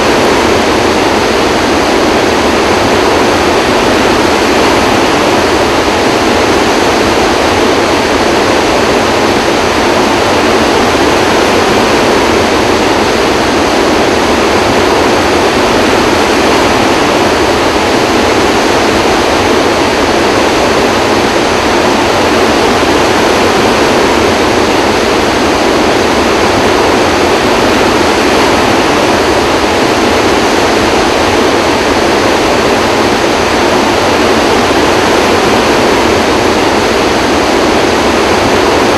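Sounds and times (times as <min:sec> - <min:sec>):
water rushing from spillway: 0:00.0 - 0:38.9.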